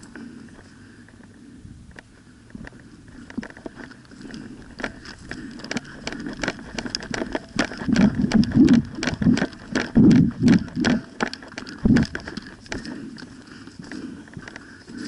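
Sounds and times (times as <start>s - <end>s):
twigs crackling: 2.0s - 15.0s.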